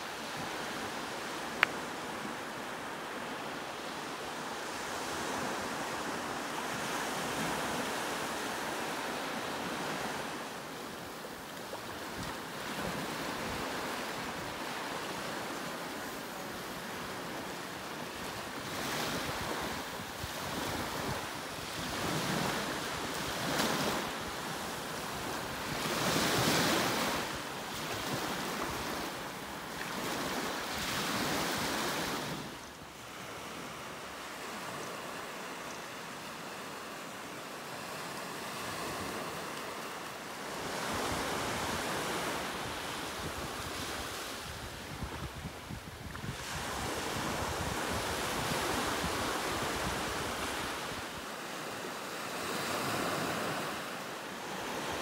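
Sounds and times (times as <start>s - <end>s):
waves breaking on sandy shore: 0.0s - 55.0s.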